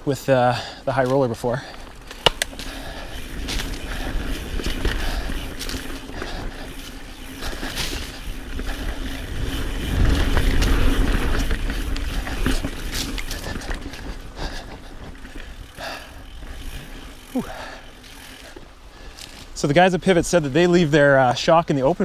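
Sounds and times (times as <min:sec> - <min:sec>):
bike tyres rolling over dirt: 0:00.0 - 0:22.0
bike rattling and clicking: 0:00.6 - 0:22.0.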